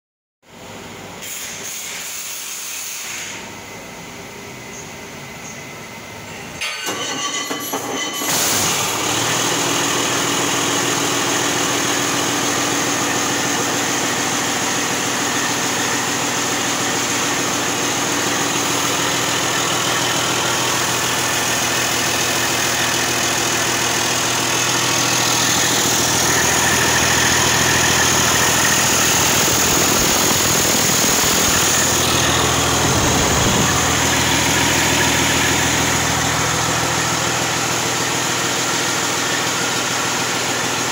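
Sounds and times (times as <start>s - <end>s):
diesel engine cranking and running: 6.6s - 40.9s.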